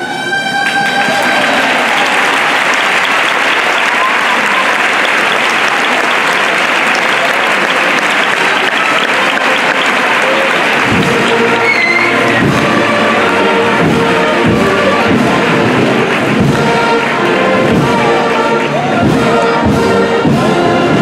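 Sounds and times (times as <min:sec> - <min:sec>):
large crowd applauding: 0:00.3 - 0:20.5.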